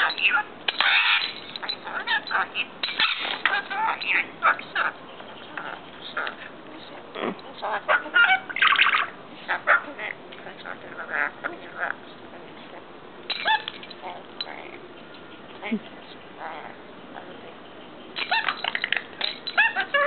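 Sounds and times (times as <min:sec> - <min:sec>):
parrot squawking and chattering: 0:00.0 - 0:12.2, 0:13.2 - 0:20.0.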